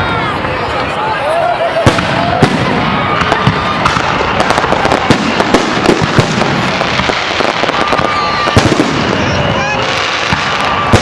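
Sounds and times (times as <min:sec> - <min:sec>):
fireworks bangs and crackling: 0:00.1 - 0:11.0
firework whistle: 0:01.8 - 0:11.0.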